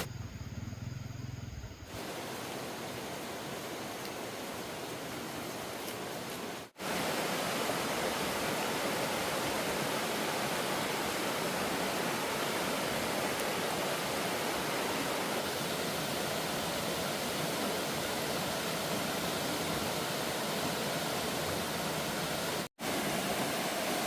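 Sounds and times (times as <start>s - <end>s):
waterfall rushing: 1.9s - 24.0s.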